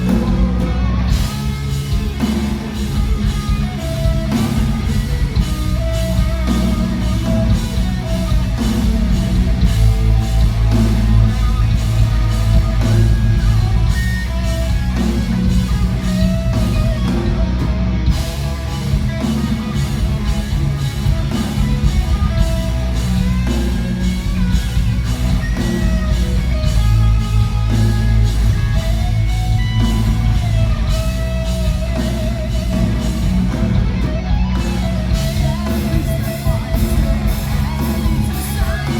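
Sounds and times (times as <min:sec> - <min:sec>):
distorted electric guitars: 0:00.0 - 0:38.9
driving drum beat: 0:00.0 - 0:38.9
lead guitar melody: 0:00.0 - 0:38.9.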